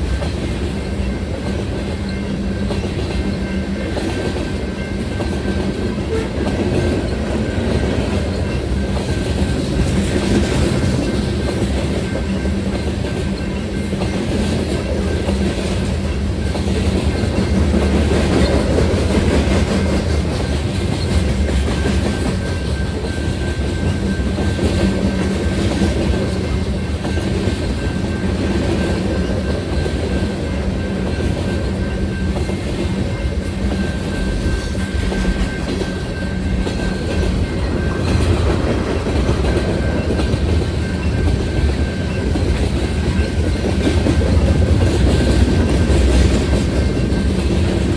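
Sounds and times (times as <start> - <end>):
freight train rumbling past: 0.0 - 47.9
wheel clatter over rail joints: 5.1 - 47.9.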